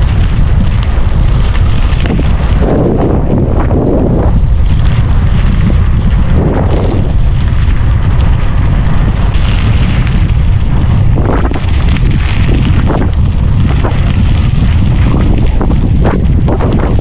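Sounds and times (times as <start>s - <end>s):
tyres rolling on dirt: 0.0s - 17.0s
wind buffeting microphone: 0.0s - 17.0s.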